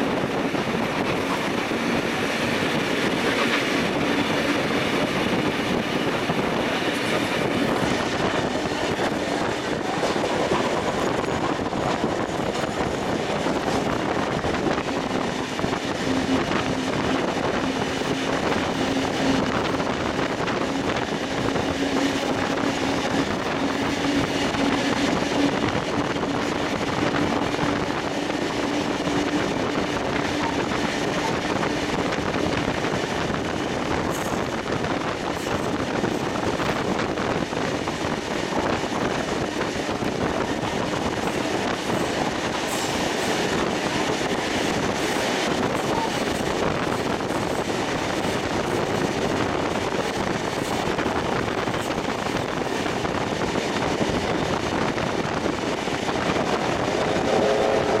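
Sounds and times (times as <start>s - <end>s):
train wheels on rails: 0.0s - 58.0s
wind rushing past: 0.0s - 58.0s.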